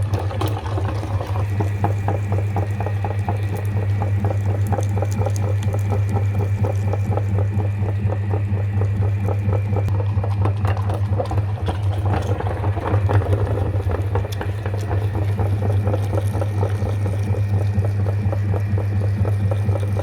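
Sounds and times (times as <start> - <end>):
meat grinder motor hum: 0.0 - 20.0.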